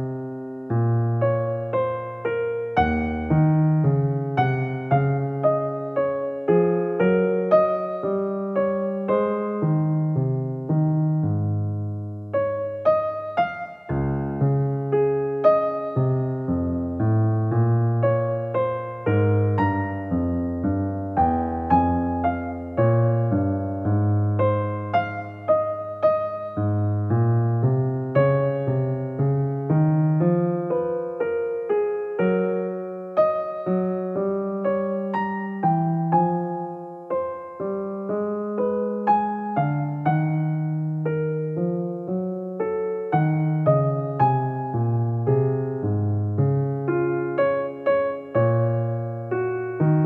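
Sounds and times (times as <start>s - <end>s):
piano music: 0.0s - 50.0s.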